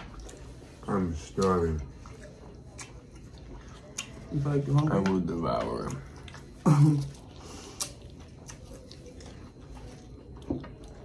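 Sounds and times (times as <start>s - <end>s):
chewing and mouth noises: 0.0s - 11.0s.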